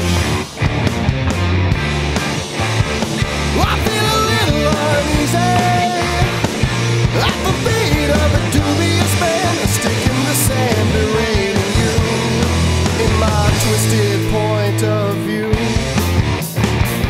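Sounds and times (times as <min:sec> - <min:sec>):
live hard rock band playing: 0:00.0 - 0:17.0.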